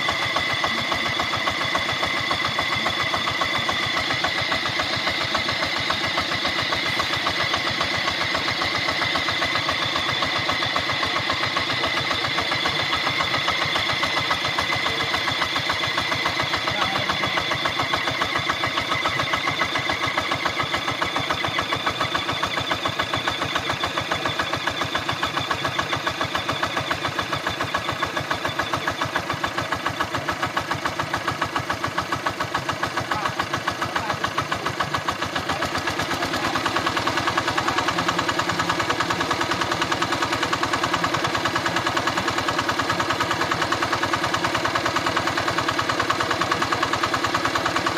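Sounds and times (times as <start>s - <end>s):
diesel pump engine chugging: 0.0s - 47.9s.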